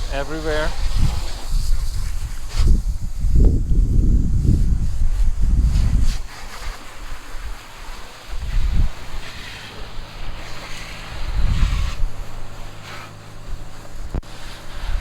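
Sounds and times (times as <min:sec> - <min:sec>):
hose water spraying: 0:00.0 - 0:15.0
wind buffeting microphone: 0:00.0 - 0:15.0.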